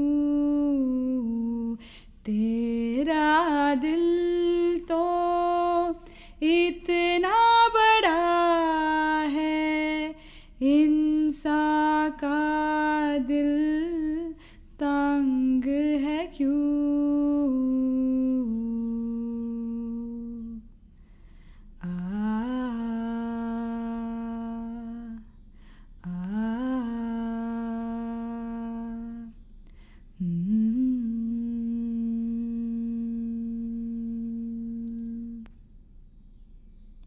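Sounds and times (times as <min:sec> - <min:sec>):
woman humming a slow melody: 0:00.0 - 0:20.7, 0:21.8 - 0:25.3, 0:26.0 - 0:29.5, 0:30.2 - 0:35.6.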